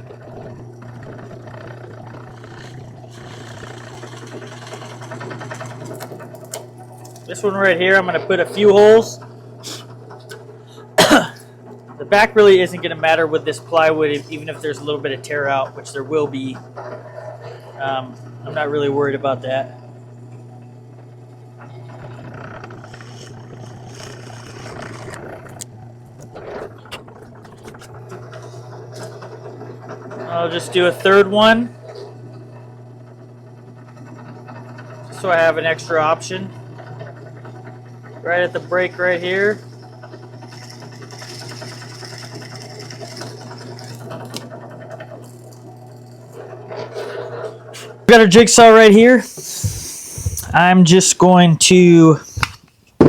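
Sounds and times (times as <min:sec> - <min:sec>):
drill press boring plywood: 0:00.0 - 0:53.0.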